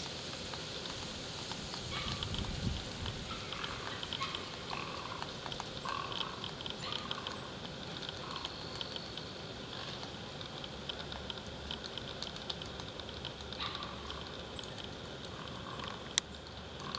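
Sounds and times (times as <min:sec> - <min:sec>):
woodpecker tapping bark: 0:01.6 - 0:10.1, 0:10.8 - 0:16.1.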